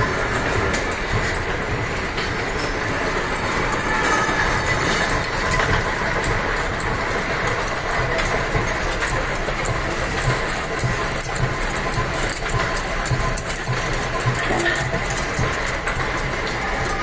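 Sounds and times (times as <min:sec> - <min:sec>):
lathe running with rattle: 0:00.0 - 0:17.0.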